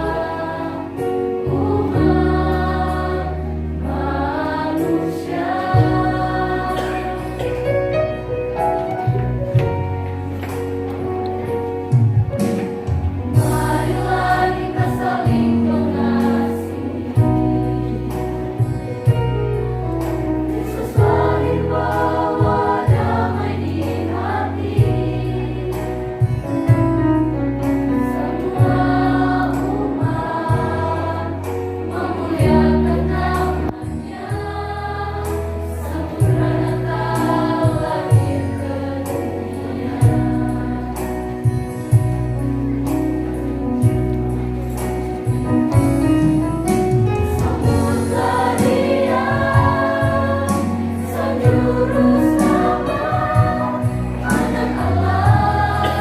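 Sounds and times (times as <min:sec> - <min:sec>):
mixed choir singing praise song: 0:00.0 - 0:09.5, 0:12.4 - 0:45.8, 0:46.4 - 0:56.0
instrumental accompaniment: 0:00.1 - 0:56.0.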